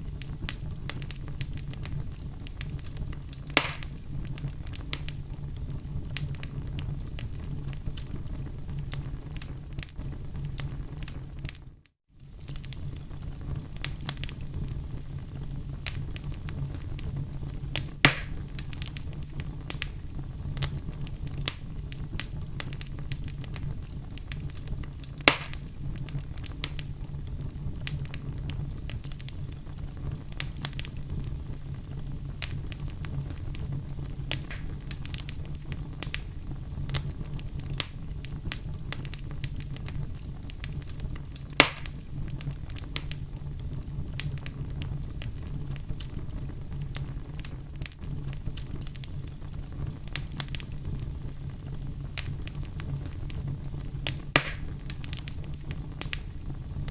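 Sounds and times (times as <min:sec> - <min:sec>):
loud fire pops: 0:00.0 - 0:56.9
low rumble of flames: 0:00.0 - 0:56.9
wood fire crackling: 0:00.0 - 0:56.9.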